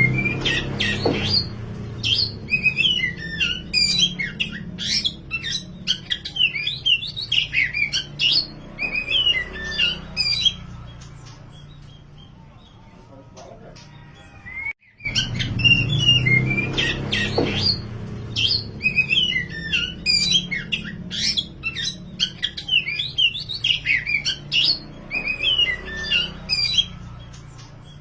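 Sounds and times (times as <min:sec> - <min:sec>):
magpie-robin singing: 0:00.0 - 0:28.0.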